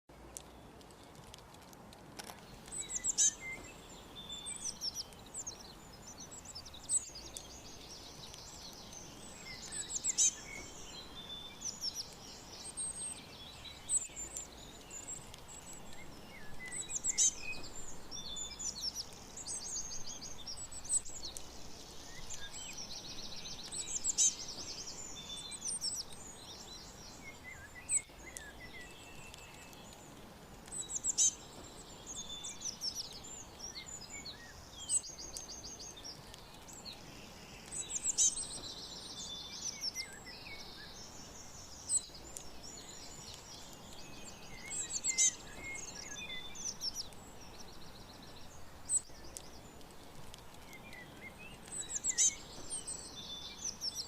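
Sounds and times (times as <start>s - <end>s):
faint steady hiss: 0.1s - 54.0s
songbirds chirping and trilling: 0.1s - 54.0s.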